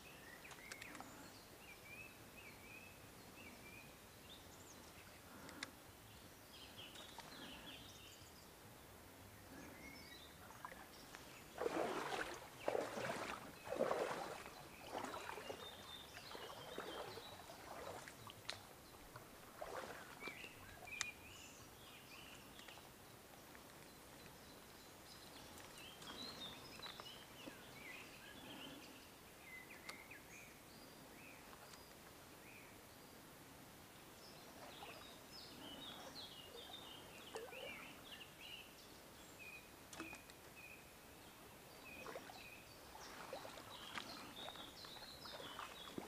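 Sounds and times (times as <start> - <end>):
small birds chirping: 0.0 - 33.2, 34.1 - 46.0.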